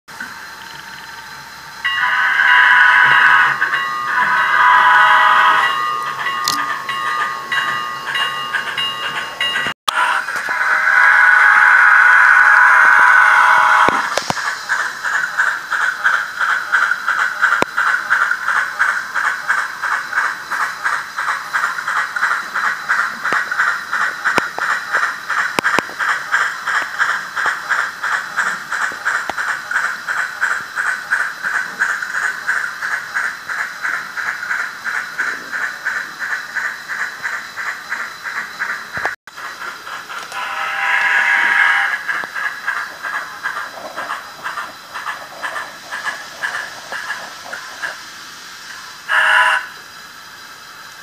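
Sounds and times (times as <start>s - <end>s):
model steam locomotive chuffing: 0.1s - 51.0s.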